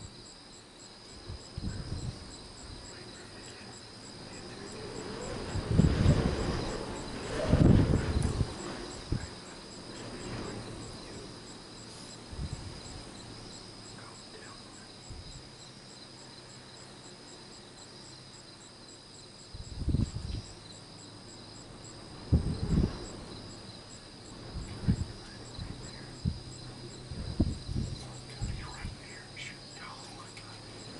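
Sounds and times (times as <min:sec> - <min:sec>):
night insects chirping: 0:00.0 - 0:30.9
rustles: 0:00.0 - 0:30.9.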